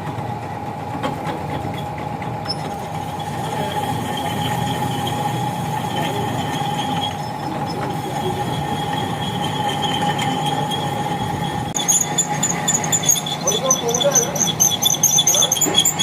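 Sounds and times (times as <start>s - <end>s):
drill squealing on steel: 1.7s - 16.0s
machine running: 1.7s - 16.0s.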